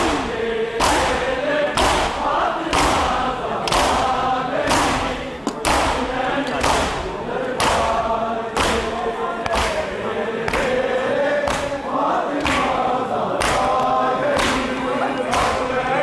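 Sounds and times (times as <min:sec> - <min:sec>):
crowd beating chests in unison: 0:00.0 - 0:16.0
men chanting together: 0:00.0 - 0:16.0.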